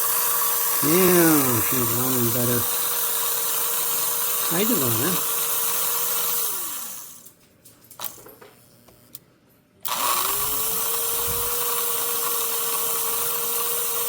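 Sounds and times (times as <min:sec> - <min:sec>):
toy train motor whining: 0:00.0 - 0:07.3, 0:09.8 - 0:14.0.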